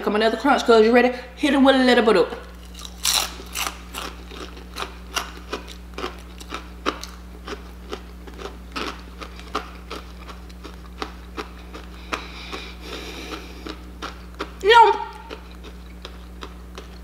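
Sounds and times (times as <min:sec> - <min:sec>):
chewing crunchy food: 0:02.4 - 0:17.0.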